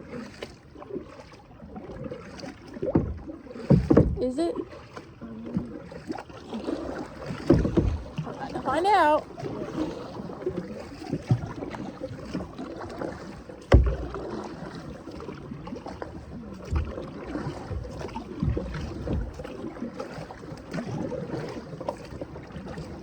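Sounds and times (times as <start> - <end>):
paddle splashing in water: 0.0 - 23.0.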